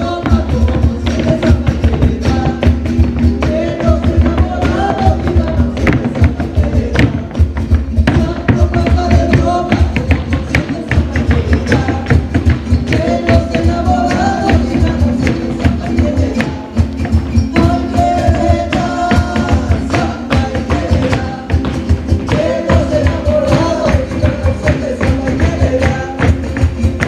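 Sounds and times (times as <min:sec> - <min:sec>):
live band playing latin dance music: 0:00.0 - 0:27.0.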